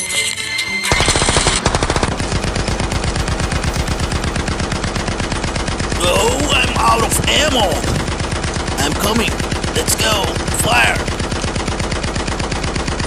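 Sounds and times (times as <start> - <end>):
machine-gun fire: 0.9 - 13.0.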